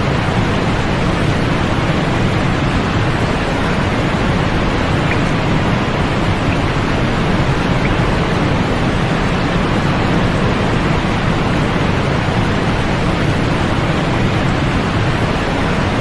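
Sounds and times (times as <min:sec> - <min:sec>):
steady hiss noise: 0:00.0 - 0:16.0.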